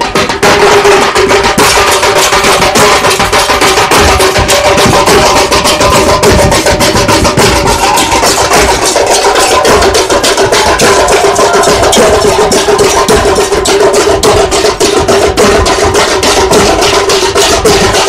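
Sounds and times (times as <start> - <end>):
drums beaten with sticks: 0.0 - 18.0.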